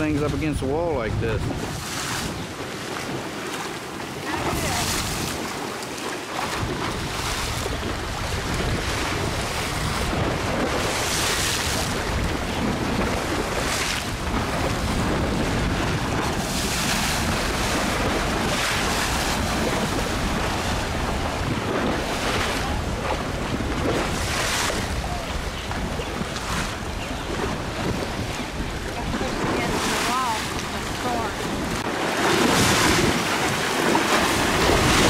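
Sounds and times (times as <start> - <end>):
waves splashing against a wall: 0.0 - 35.0
wind buffeting microphone: 0.0 - 35.0.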